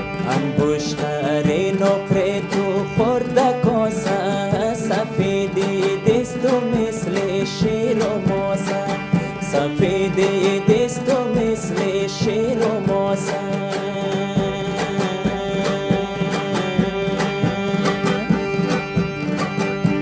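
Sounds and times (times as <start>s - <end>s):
man singing: 0.0s - 18.9s
harmonium chords: 0.0s - 20.0s
lute strummed: 0.0s - 20.0s.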